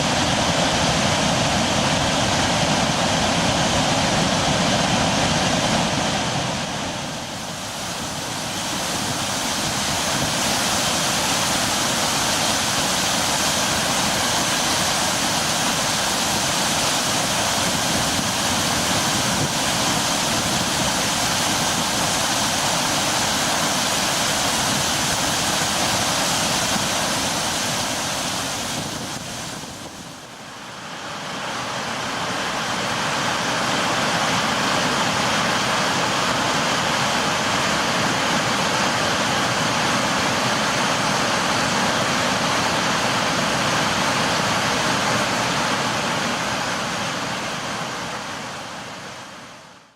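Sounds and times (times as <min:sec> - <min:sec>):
water rushing through spillway: 0:00.0 - 0:49.9.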